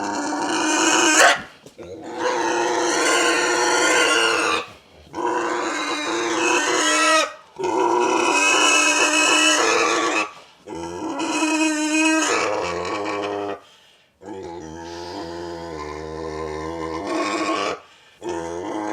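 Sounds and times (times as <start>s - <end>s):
pig squealing: 0.0s - 13.6s, 14.3s - 18.9s.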